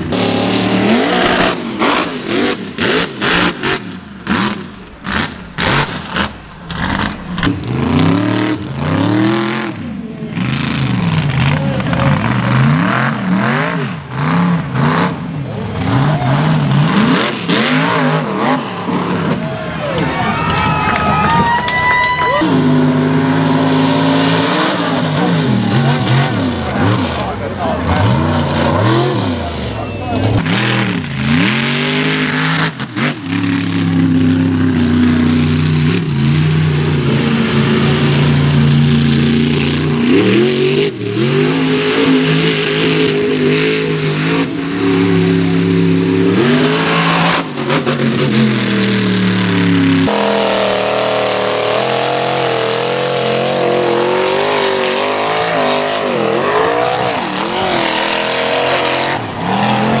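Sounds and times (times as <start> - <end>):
truck engines revving: 0.0 - 60.0.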